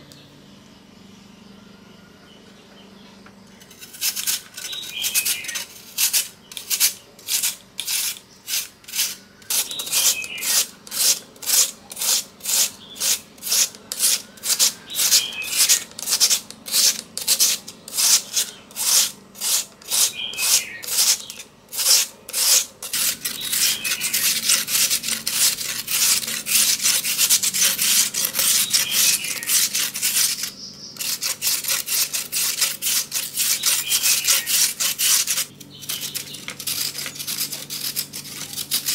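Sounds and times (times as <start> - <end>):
potato scraping on metal grater: 3.6 - 38.9.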